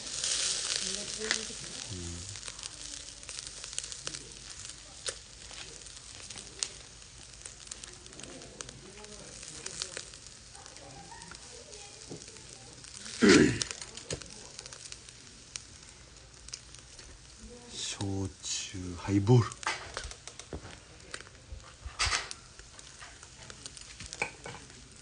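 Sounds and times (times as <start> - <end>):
chicken sizzling over charcoal: 0.0 - 25.0
fat crackling and popping: 0.0 - 25.0.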